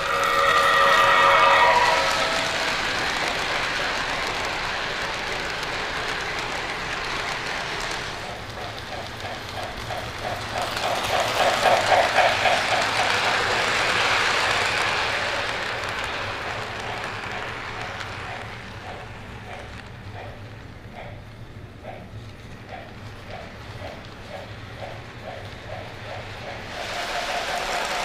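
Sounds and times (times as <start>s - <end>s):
model train rolling on track: 0.0s - 28.0s
rhythmic locomotive beat: 0.0s - 28.0s.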